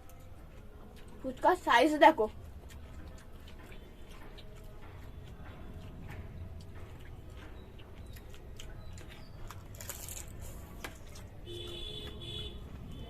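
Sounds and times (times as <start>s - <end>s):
chewing clicks and crunches: 0.0s - 13.0s.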